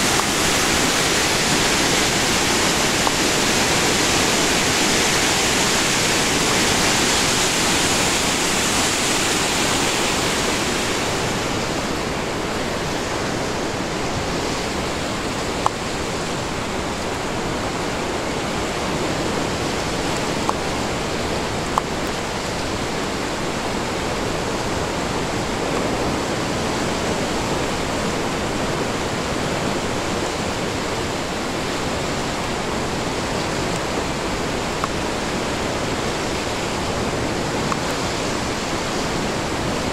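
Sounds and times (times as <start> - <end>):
whitewater rushing: 0.0 - 39.9.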